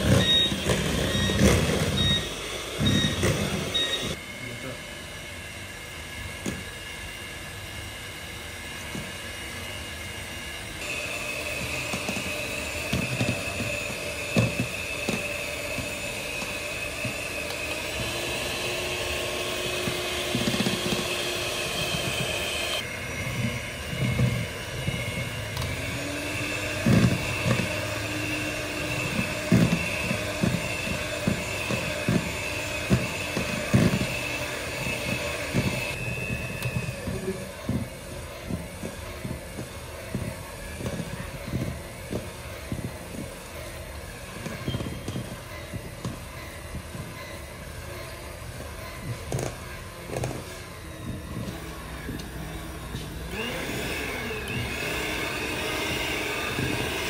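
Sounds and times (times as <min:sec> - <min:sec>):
small electric motor whining: 0:00.0 - 0:48.1, 0:48.8 - 0:57.0.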